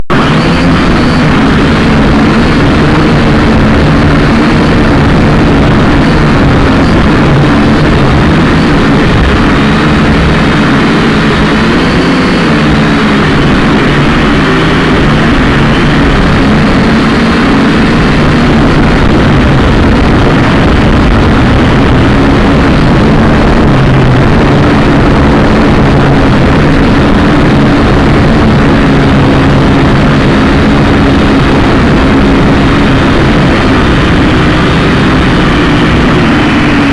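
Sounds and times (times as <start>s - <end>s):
drone propellers buzzing: 0.0s - 36.9s
low rumble: 0.0s - 36.9s.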